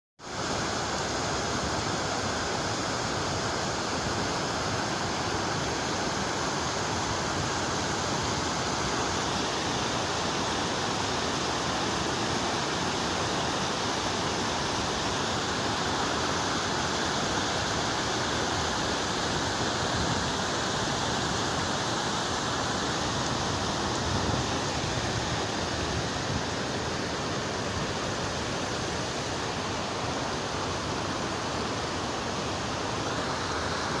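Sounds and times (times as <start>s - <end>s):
mountain water rushing: 0.2s - 34.0s.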